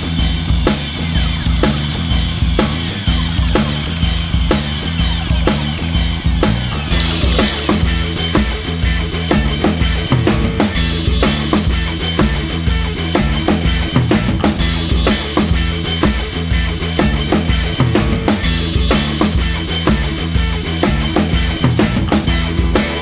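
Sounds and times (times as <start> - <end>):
upbeat music with drums and bass: 0.0 - 23.0.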